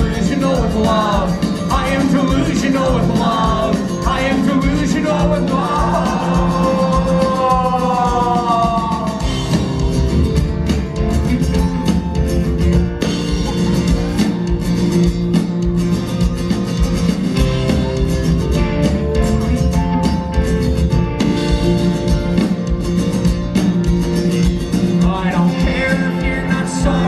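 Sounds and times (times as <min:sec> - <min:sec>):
drum kit: 0:00.0 - 0:27.0
electric guitar playing: 0:00.0 - 0:27.0.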